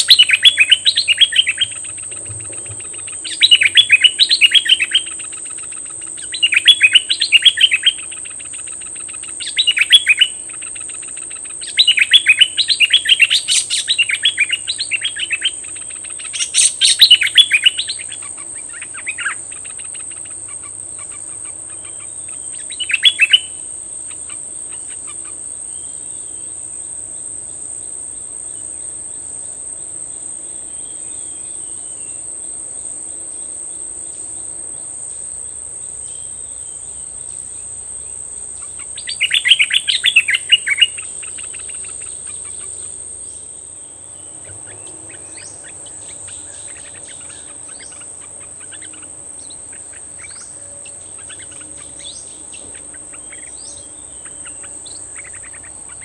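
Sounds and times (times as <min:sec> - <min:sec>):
bird chattering song: 0:00.0 - 0:26.6, 0:34.8 - 0:56.0
high insect drone: 0:00.0 - 0:56.0.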